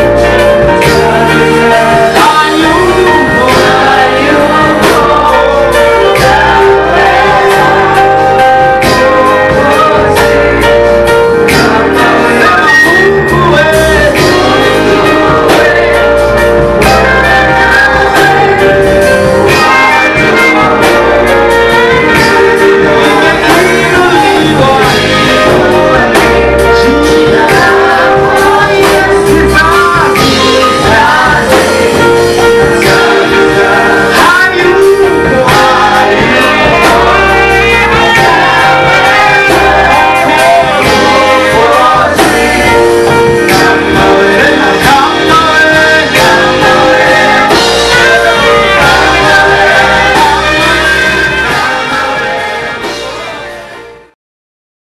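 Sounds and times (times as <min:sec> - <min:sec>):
group singing gospel song: 0:00.0 - 0:54.2
live band with drum kit: 0:00.0 - 0:54.2.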